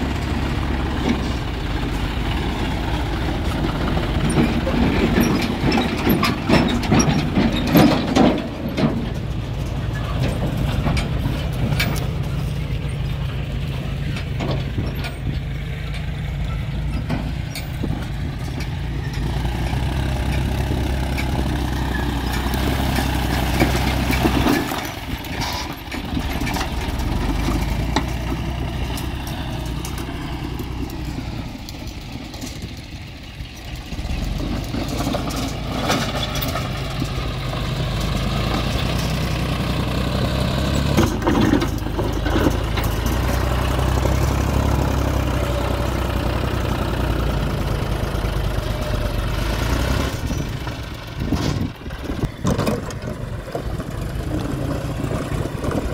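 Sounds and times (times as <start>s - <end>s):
knocks and rattles: 0.0s - 55.9s
tractor diesel engine running: 0.0s - 55.9s.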